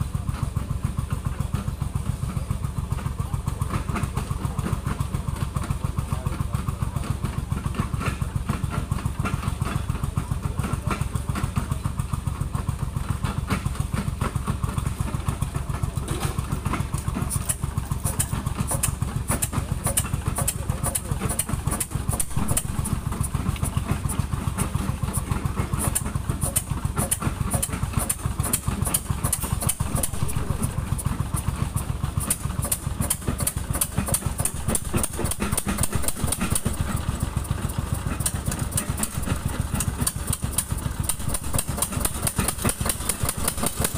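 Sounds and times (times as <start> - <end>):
machine engine running: 0.0 - 43.9.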